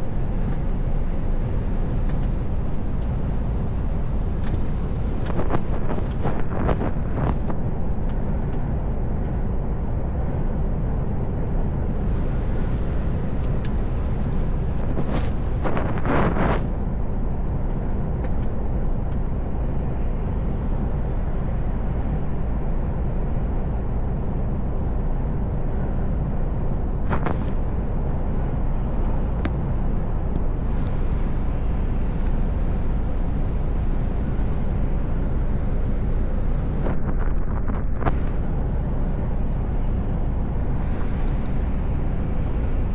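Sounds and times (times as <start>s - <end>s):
truck engine and tyres rumbling: 0.0s - 42.9s.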